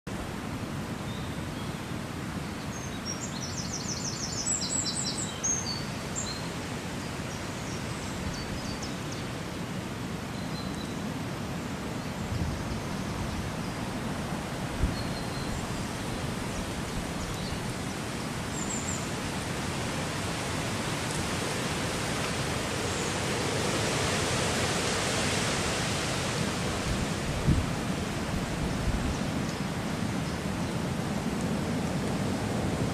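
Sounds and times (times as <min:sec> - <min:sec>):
outdoor background hiss: 0:00.1 - 0:32.9.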